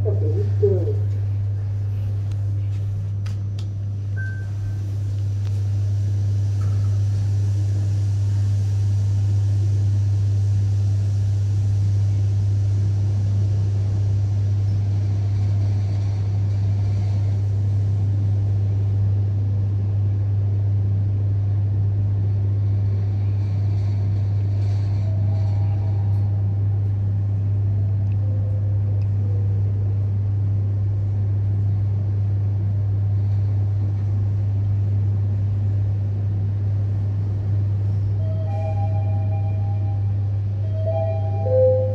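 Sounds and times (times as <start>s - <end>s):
deep hum: 0.0s - 41.9s.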